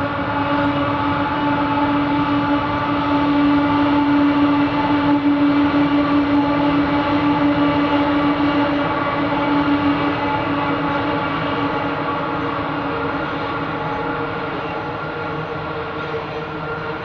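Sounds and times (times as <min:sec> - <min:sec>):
locomotive engines humming: 0:00.0 - 0:17.0
train rumble: 0:00.0 - 0:17.0.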